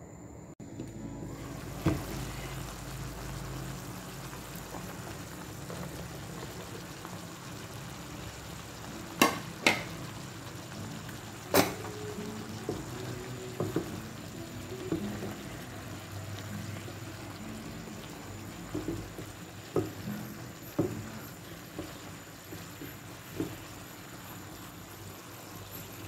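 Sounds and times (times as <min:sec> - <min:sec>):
vegetables sizzling in a pan: 0:00.7 - 0:26.0.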